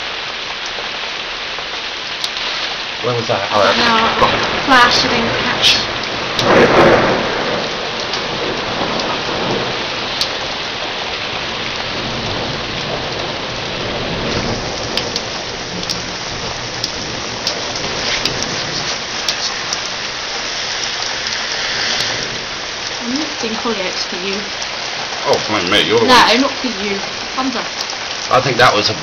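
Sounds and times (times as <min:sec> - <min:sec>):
heavy rain hissing: 0:00.0 - 0:29.0
raindrops ticking on surface: 0:00.0 - 0:29.0
thunder rumbling: 0:02.5 - 0:29.0.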